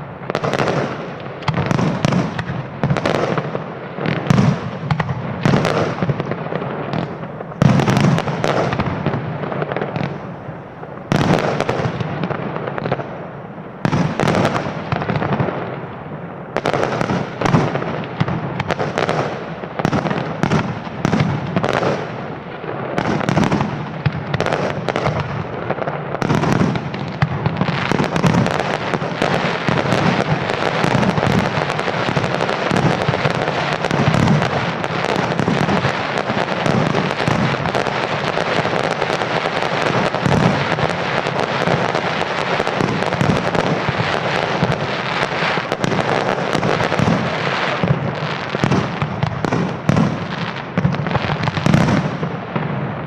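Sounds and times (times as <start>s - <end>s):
fireworks bursting and crackling: 0.0s - 53.0s.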